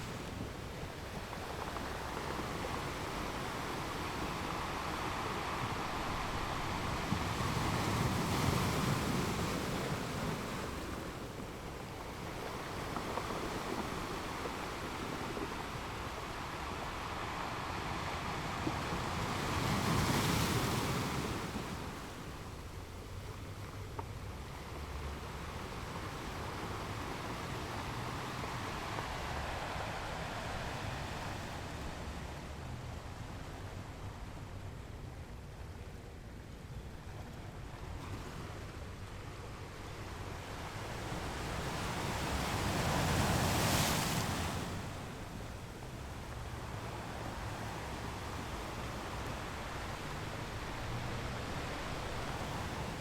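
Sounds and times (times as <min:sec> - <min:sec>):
big waves crashing: 0:00.0 - 0:23.5, 0:24.1 - 0:35.0, 0:37.4 - 0:53.0
waves washing on rocks: 0:00.0 - 0:34.0, 0:38.0 - 0:53.0.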